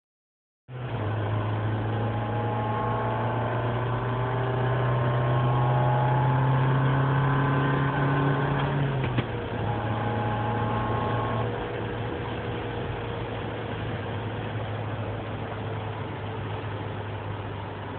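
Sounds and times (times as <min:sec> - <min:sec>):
car engine idling with deep drone: 0:00.8 - 0:17.9.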